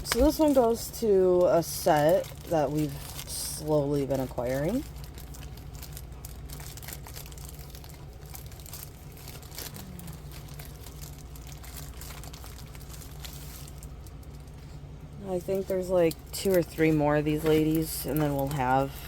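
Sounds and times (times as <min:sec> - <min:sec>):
plastic packaging crinkling: 0:00.0 - 0:19.0
steady low hum: 0:00.0 - 0:19.0.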